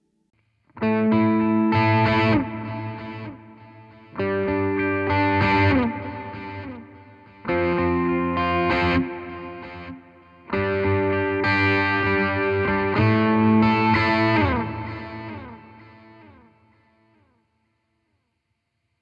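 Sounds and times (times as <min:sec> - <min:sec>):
distorted electric guitar chords: 0:00.8 - 0:16.8.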